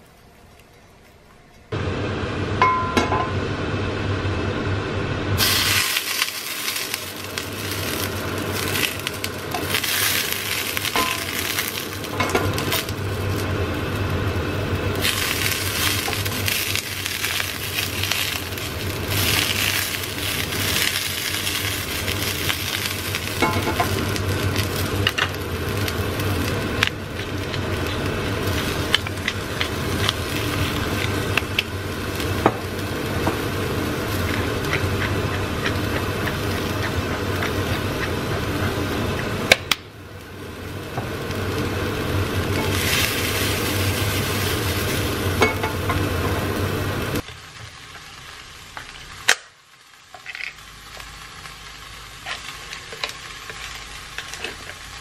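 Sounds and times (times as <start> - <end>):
tomatoes sizzling in hot oil: 5.4 - 55.0.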